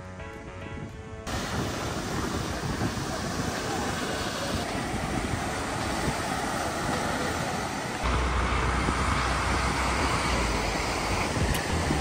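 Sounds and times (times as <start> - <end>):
wind rumble on microphone: 0.2 - 12.0
ocean surf on a beach: 1.3 - 12.0.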